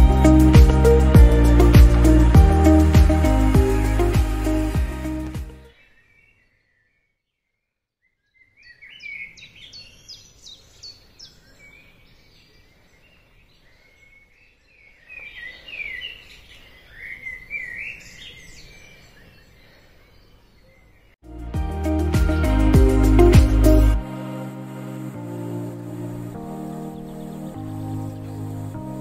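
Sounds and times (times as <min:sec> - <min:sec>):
songbirds chirping: 0:00.0 - 0:21.2, 0:25.8 - 0:29.0.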